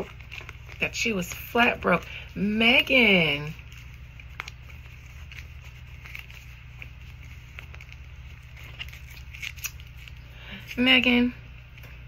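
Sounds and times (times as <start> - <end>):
cards shuffled in hands: 0.0 - 11.1.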